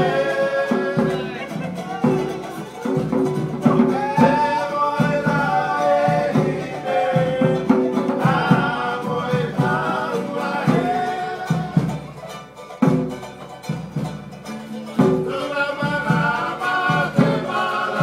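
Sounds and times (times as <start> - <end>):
men singing in harmony: 0.0 - 3.0, 3.6 - 12.1, 15.0 - 18.0
hand drum beating: 0.0 - 18.0.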